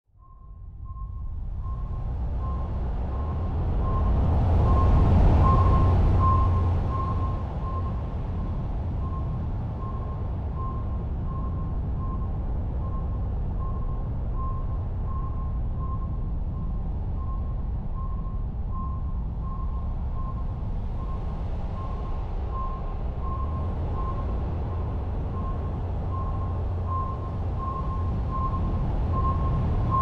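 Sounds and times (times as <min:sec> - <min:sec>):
deep steady rumble: 0:00.1 - 0:30.0.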